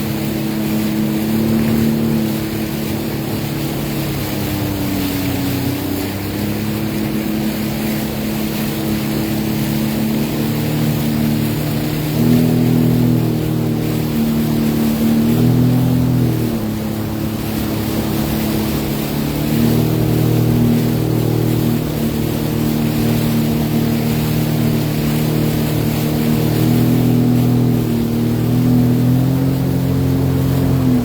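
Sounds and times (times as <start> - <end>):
water rushing: 0.0 - 31.0
watercraft engine droning: 0.0 - 31.0.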